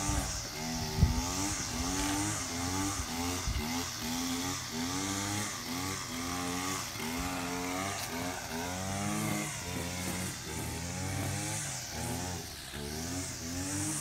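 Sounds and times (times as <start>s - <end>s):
string trimmer engine revving: 0.0s - 14.0s.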